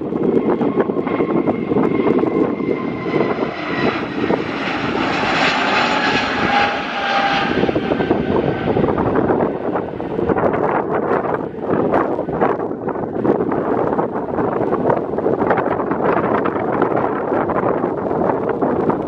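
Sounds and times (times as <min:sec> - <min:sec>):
jet engines roaring at takeoff: 0:00.0 - 0:19.0.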